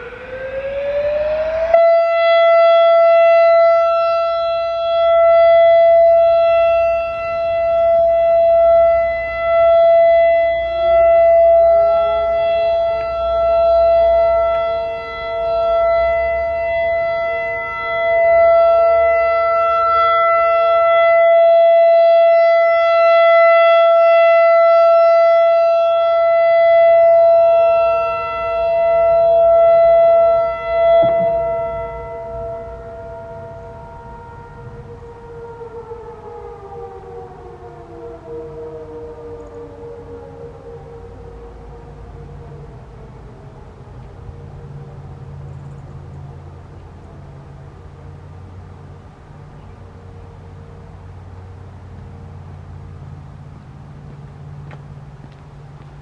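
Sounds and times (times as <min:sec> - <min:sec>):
electronic siren alert tone: 0:00.0 - 0:46.1
lower siren tone: 0:00.0 - 0:56.0.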